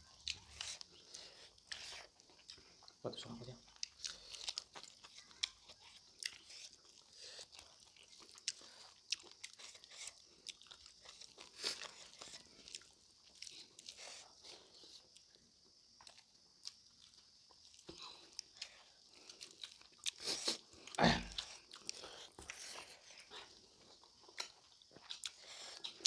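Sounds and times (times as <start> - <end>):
chewing with mouth clicks: 0.1 - 15.4, 16.0 - 26.0.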